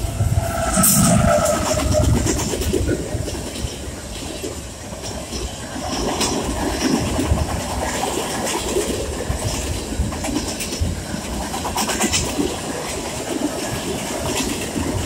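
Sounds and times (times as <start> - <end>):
train wheels rumbling on rail: 0.0 - 15.0
clickety-clack over rail joints: 0.6 - 15.0.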